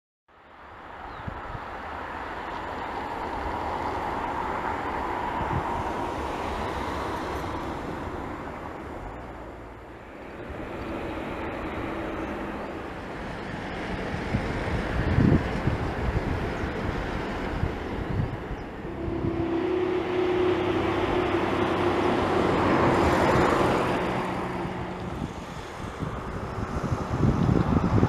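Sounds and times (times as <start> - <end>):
distant jet engine: 2.0 - 28.0.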